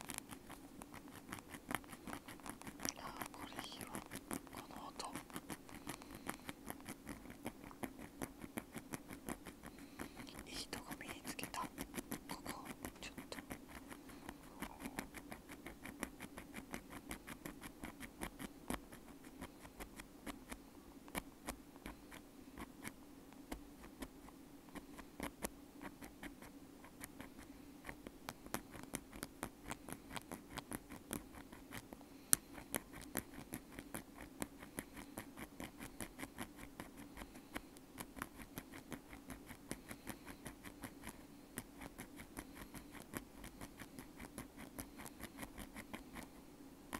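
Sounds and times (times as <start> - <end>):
ear pick scratching: 0.0 - 46.3.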